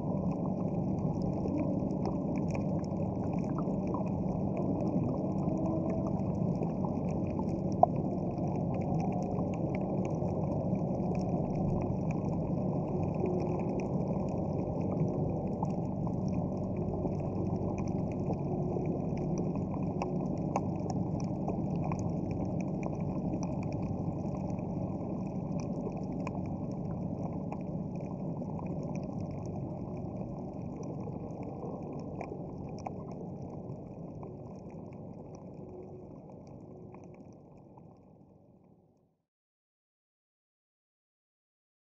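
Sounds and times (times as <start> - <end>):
crackle of small clicks: 0.0 - 39.0
boat engine drone underwater: 0.0 - 39.2.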